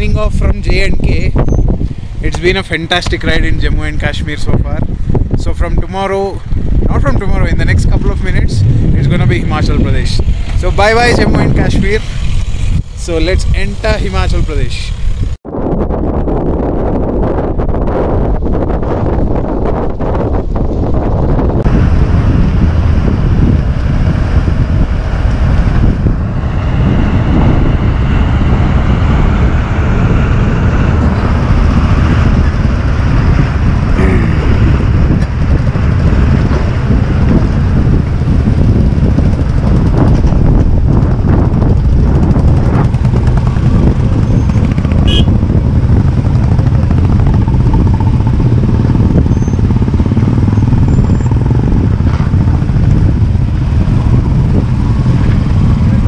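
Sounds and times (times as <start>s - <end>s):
motorcycle engines at low speed: 0.0s - 56.0s.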